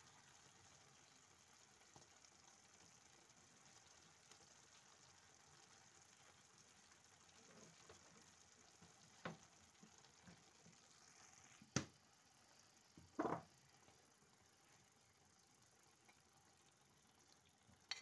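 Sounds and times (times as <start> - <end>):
faint sizzling of stew: 0.0 - 18.0.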